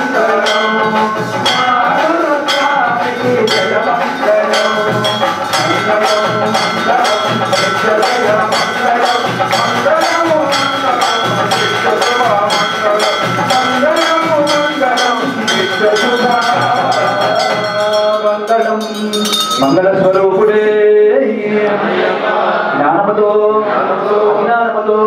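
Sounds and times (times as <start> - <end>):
brass bell rung rapidly: 0.0 - 21.1
devotional music: 0.0 - 24.9.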